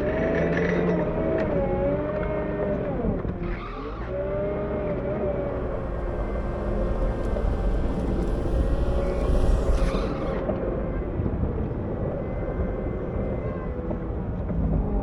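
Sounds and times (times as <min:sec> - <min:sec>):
diesel loader engine running: 0:00.0 - 0:15.0.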